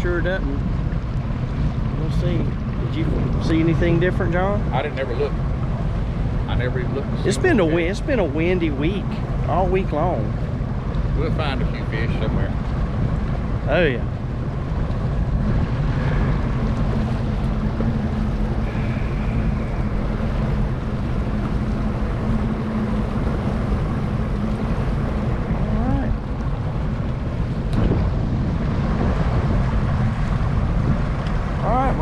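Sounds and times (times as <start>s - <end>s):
boat motor humming: 0.0s - 32.0s
wind buffeting microphone: 0.0s - 32.0s.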